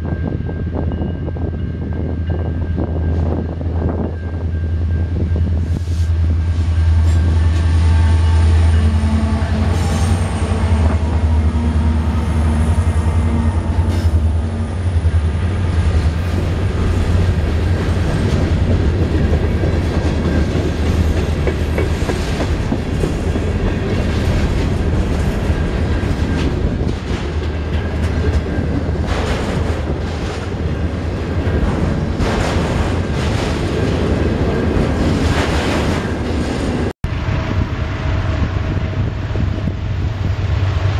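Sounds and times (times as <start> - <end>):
diesel locomotive drone: 0.0 - 40.9
train cars rumbling: 0.0 - 40.9.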